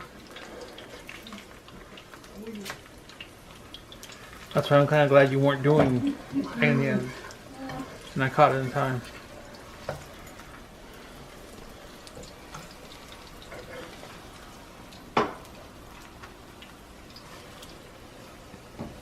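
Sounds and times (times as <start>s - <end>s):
tortillas sizzling in oil: 0.0s - 19.0s.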